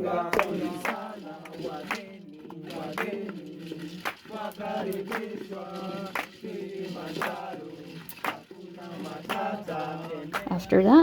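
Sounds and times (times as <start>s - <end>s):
group singing a work song: 0.0s - 11.0s.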